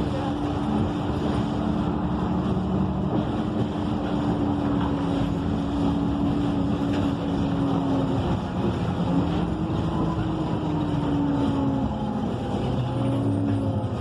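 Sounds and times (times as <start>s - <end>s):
bus engine whine: 0.0s - 14.0s
road noise: 0.0s - 14.0s.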